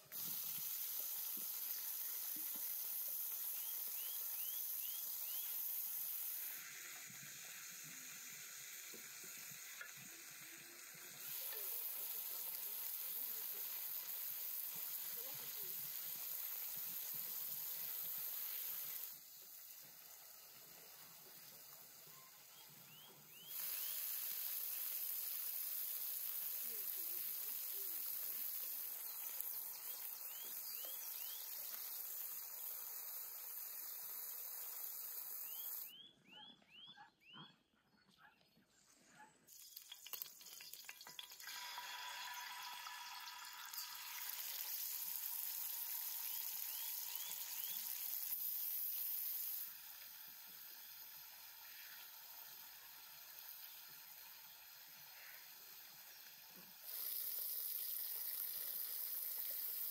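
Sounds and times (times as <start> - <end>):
meat sizzling in hot oil: 0.0 - 35.9, 39.5 - 59.9.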